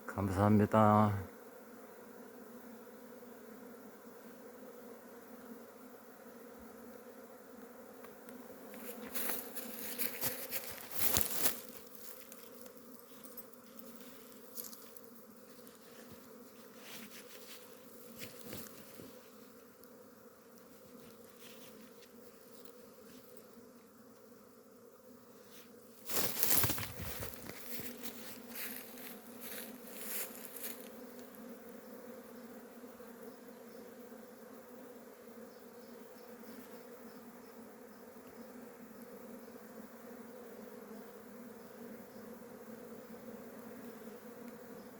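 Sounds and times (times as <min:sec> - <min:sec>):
bees buzzing: 0:00.1 - 0:44.9.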